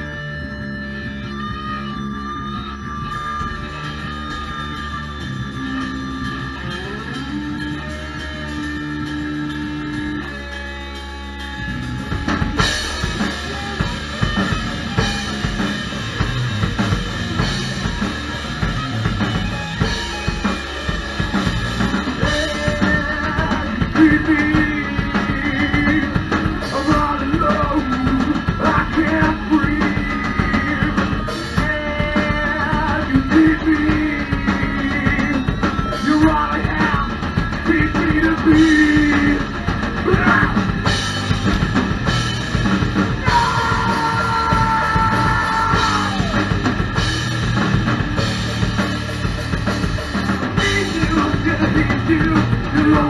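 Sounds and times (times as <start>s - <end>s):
electric guitar and bass chords: 0.0s - 53.0s
rock band playing: 0.0s - 53.0s.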